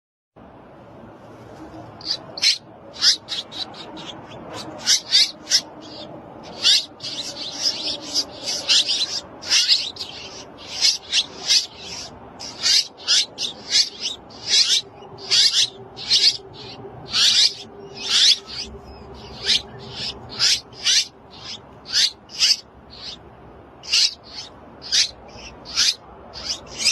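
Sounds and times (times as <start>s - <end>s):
baby birds begging calls: 1.8s - 26.9s.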